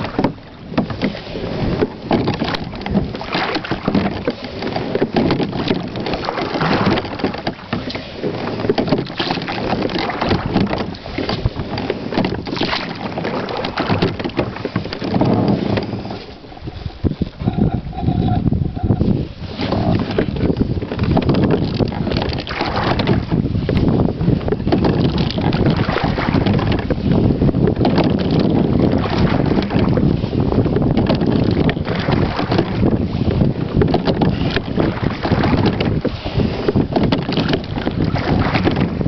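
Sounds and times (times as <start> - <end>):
oar blades dipping in water: 0.0 - 39.0
oars knocking in oarlocks: 0.0 - 39.0.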